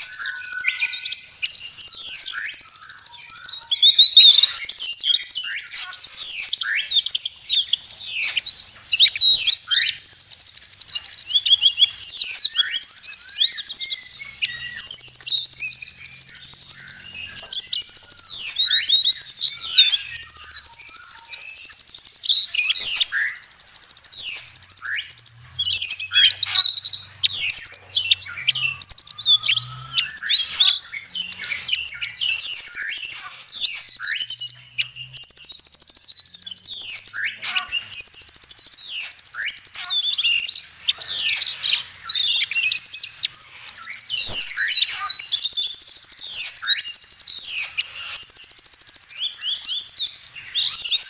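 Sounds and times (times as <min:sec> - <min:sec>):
bird chirps and whistles: 0:00.0 - 0:51.0
buzzy songbird trills: 0:00.0 - 0:51.0.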